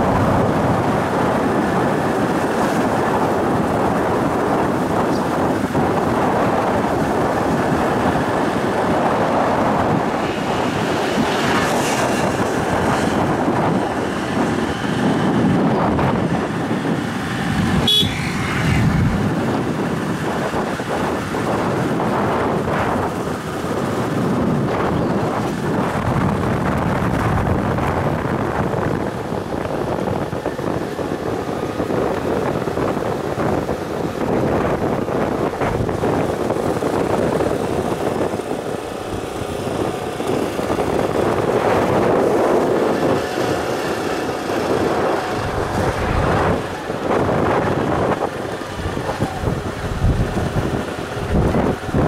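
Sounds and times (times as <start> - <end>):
motorcycle running on road: 0.0 - 52.0
wind rushing over microphone: 0.0 - 52.0.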